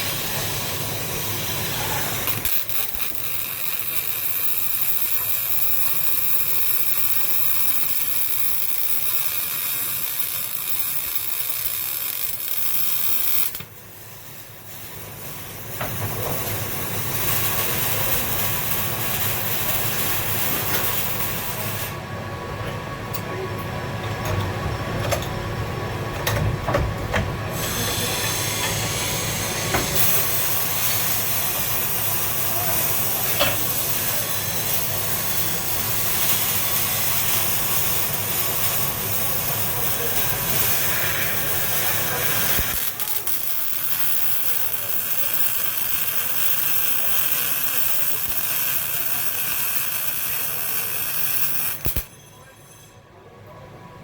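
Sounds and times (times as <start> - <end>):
welding arc hissing: 0.0 - 22.0, 27.5 - 52.8.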